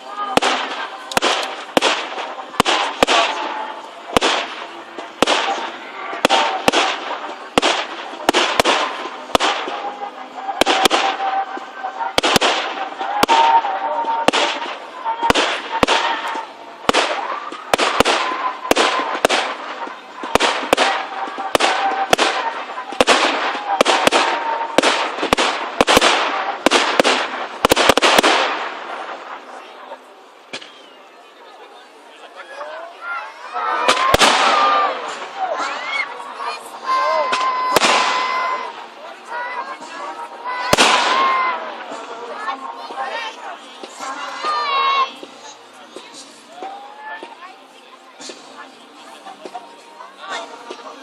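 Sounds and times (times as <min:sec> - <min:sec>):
fireworks bangs crackling: 0:00.0 - 0:31.0, 0:33.3 - 0:47.5, 0:48.1 - 0:51.0.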